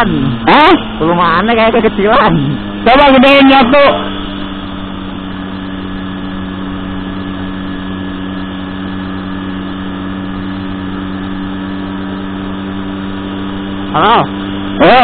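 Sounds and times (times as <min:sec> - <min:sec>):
motorbike engine cruising: 0:00.0 - 0:15.0
road and wind noise: 0:00.0 - 0:15.0.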